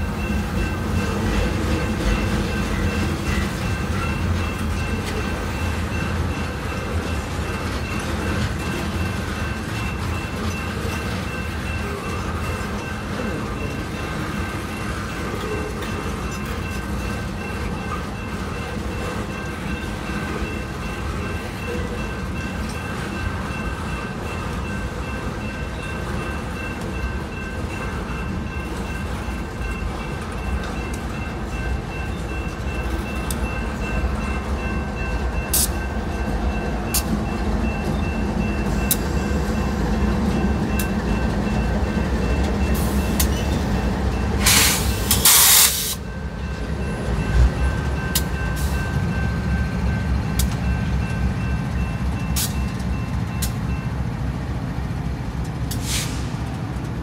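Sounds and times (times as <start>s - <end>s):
crossing bell dinging: 0.0s - 56.2s
diesel locomotives running: 0.0s - 57.0s
train wheels rumbling on rail: 0.0s - 57.0s.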